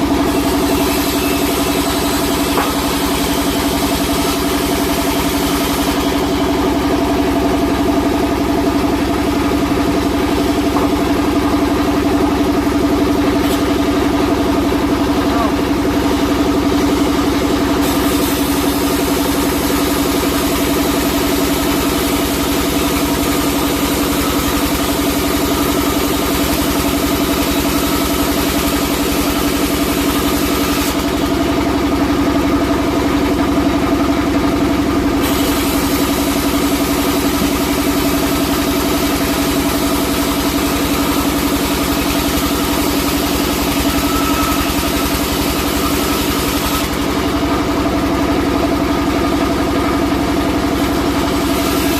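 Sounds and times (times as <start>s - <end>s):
sawmill machinery hum and hiss: 0.0s - 51.9s.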